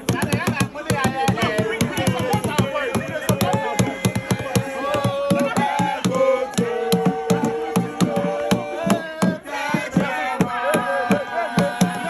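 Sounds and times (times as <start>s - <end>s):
music with percussive beat: 0.0s - 12.0s.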